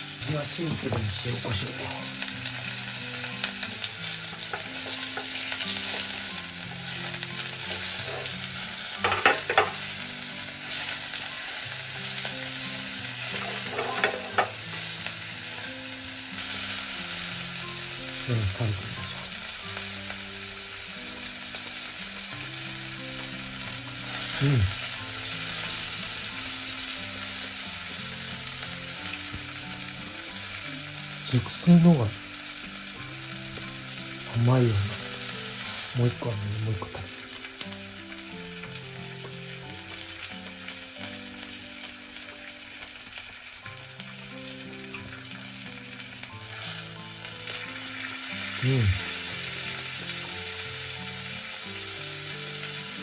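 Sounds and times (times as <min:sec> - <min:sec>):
meat sizzling: 0:00.0 - 0:53.0.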